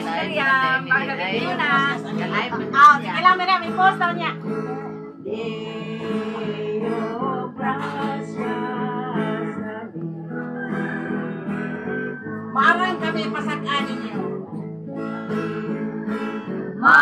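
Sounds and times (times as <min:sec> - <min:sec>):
person singing: 0:00.0 - 0:03.2, 0:04.5 - 0:15.9, 0:16.6 - 0:17.0
acoustic guitar strumming: 0:00.0 - 0:17.0.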